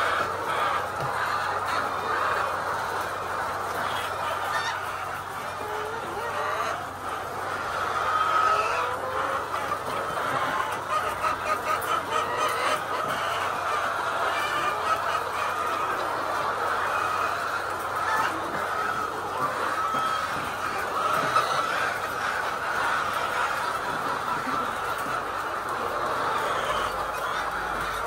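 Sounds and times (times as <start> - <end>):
flock of chickens calling: 0.0 - 28.0.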